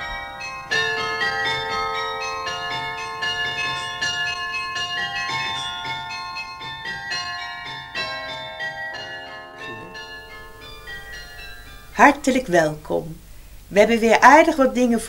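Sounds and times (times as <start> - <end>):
peal of bells: 0.0 - 13.1.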